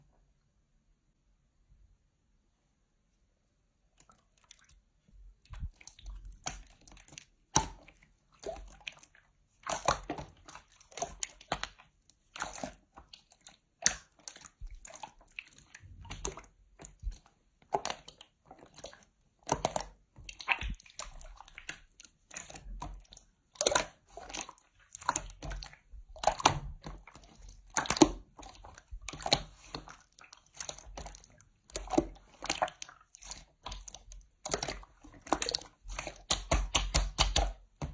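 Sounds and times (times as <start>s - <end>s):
slime squishing by hand: 3.8s - 37.9s.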